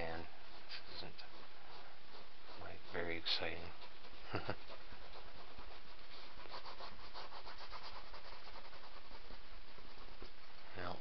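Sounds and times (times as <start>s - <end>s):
paintbrush scrubbing on canvas: 0.0s - 11.0s.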